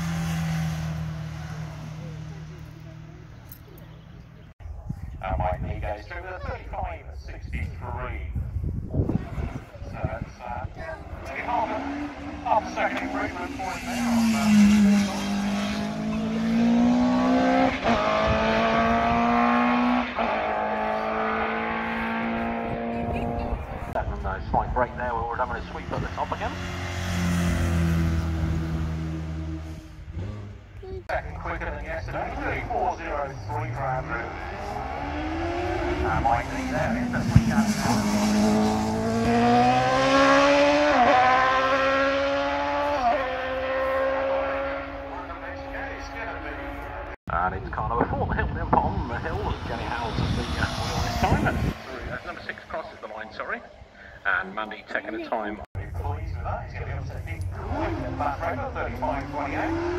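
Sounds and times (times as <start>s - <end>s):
race car engine accelerating: 0.0s - 3.8s, 9.1s - 47.2s, 48.1s - 54.0s, 54.9s - 59.9s.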